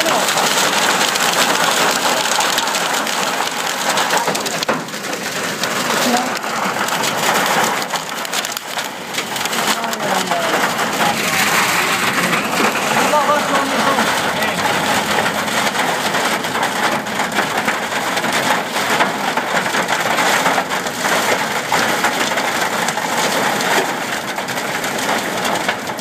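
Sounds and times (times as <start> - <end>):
heavy rain hiss: 0.0 - 24.0
hailstones striking: 0.0 - 26.0.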